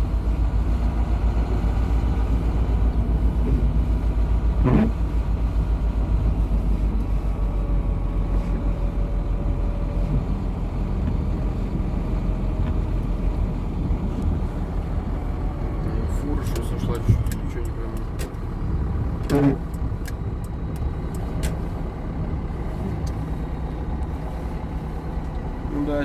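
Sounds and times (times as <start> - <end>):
diesel truck engine throbbing: 0.0 - 26.0.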